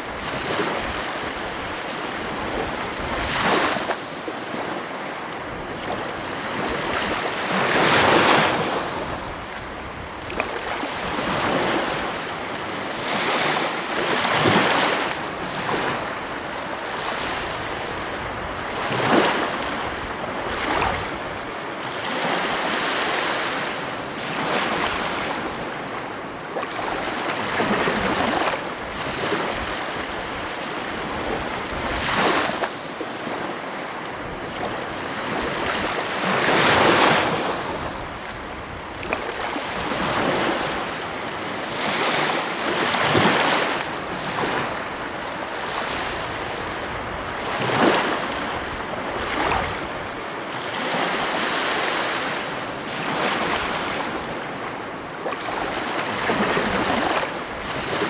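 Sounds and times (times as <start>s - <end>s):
ocean waves crashing: 0.0s - 58.0s.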